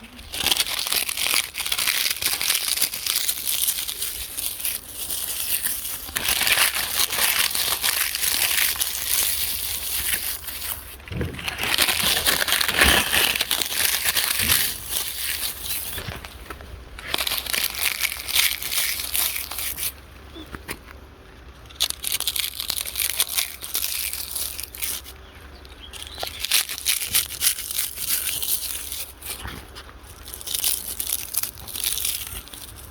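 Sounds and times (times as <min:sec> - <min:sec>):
crunchy snack being chewed: 0:00.0 - 0:20.8, 0:21.6 - 0:32.9.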